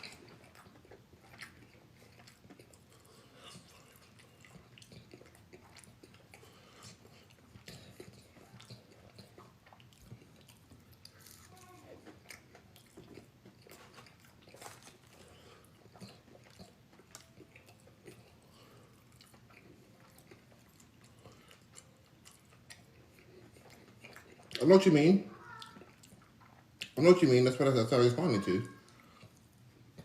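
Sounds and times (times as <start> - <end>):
person chewing and crunching: 0.0 - 30.0.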